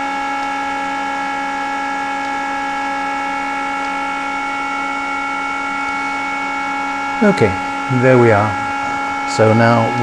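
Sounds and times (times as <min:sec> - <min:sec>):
cooling fan whirring: 0:00.0 - 0:10.0.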